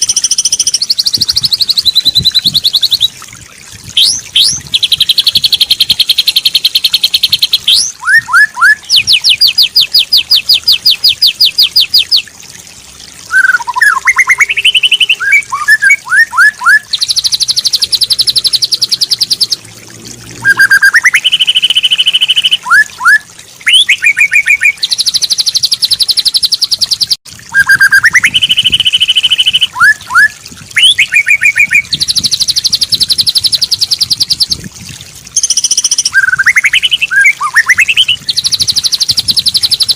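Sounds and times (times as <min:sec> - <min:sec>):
bird song trills and whistles: 0:00.0 - 0:03.2, 0:04.0 - 0:12.3, 0:13.3 - 0:19.6, 0:20.4 - 0:34.7, 0:35.4 - 0:39.9.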